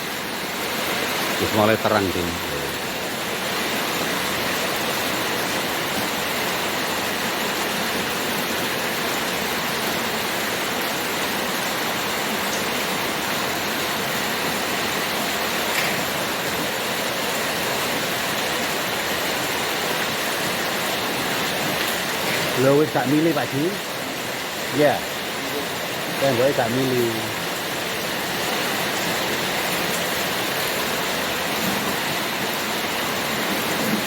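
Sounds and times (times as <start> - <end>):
rain rushing: 0.0 - 34.0
runoff water pouring: 0.2 - 34.0.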